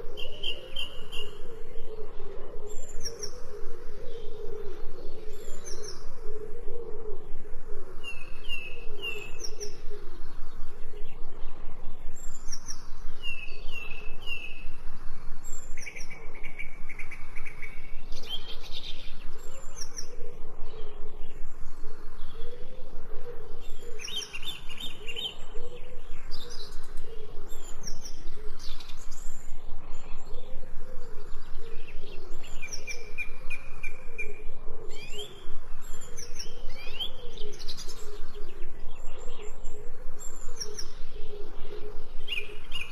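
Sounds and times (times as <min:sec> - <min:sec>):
songbirds chirping and singing: 0:00.0 - 0:42.9.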